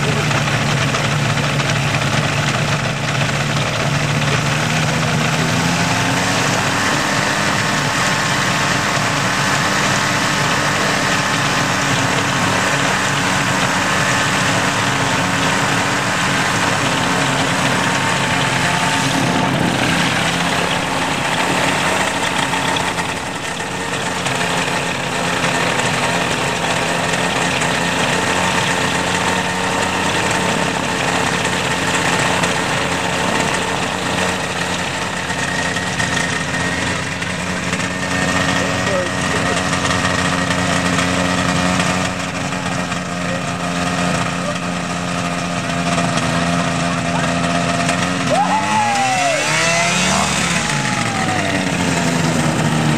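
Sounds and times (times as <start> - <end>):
propeller engine idling: 0.0 - 52.9.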